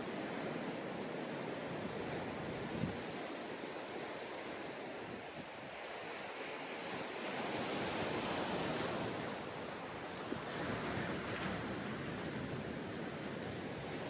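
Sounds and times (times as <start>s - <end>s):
sea waves breaking on a beach: 0.0s - 14.0s.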